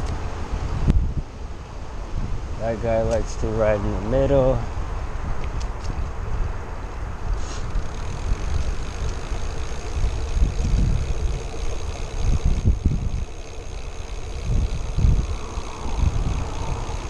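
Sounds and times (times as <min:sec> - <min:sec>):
tyre noise on asphalt: 0:00.0 - 0:17.0
wind buffeting microphone: 0:00.0 - 0:17.0.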